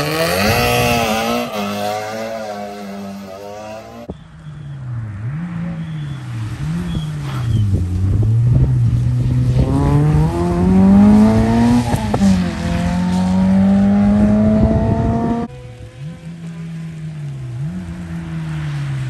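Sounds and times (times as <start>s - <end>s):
car engine accelerating: 0.0s - 19.0s
engine crackles: 0.0s - 19.0s.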